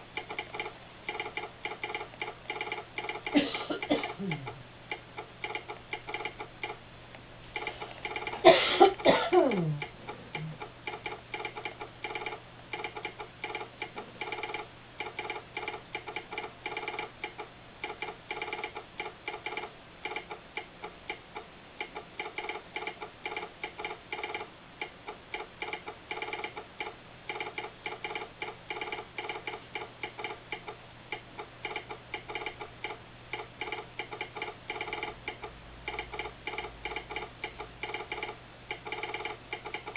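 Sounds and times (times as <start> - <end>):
telegraph sounder clicking: 0.0 - 6.8, 7.6 - 8.4, 9.8 - 39.9
steady low hum: 0.0 - 39.9.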